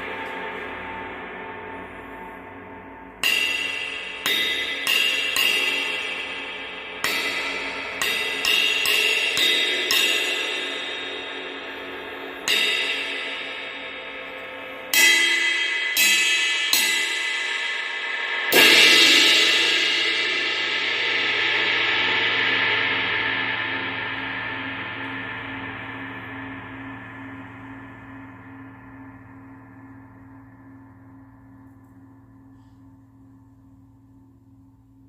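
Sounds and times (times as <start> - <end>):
ride cymbal struck with stick: 0.0 - 35.0.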